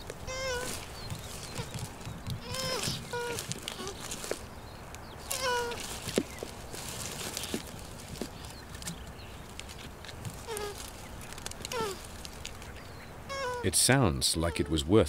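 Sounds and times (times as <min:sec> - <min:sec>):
tortoise mating calls: 0:00.0 - 0:14.9.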